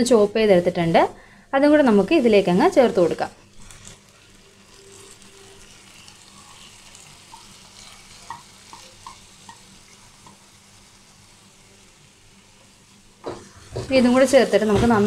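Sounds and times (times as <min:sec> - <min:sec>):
vegetables frying in a pan: 0:01.8 - 0:15.0.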